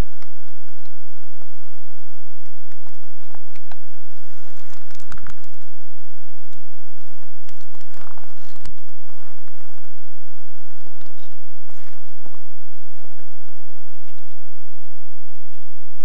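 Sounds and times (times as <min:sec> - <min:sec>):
steady high-pitched hum: 0:00.0 - 0:16.0.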